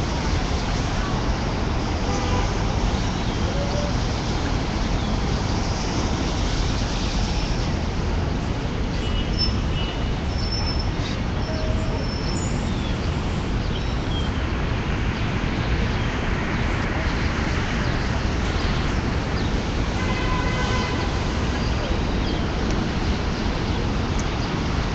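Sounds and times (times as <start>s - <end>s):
street traffic rumble: 0.0s - 24.9s.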